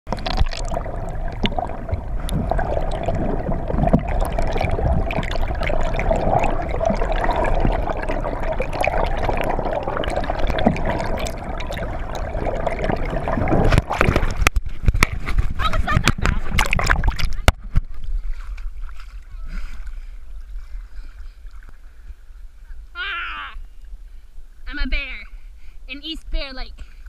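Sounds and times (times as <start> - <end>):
muffled underwater water rushing: 0.1 - 22.9.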